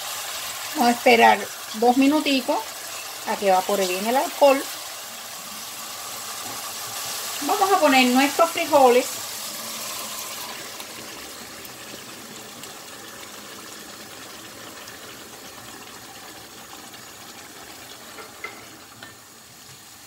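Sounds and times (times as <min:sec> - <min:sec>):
wet sizzle: 0:00.0 - 0:20.0.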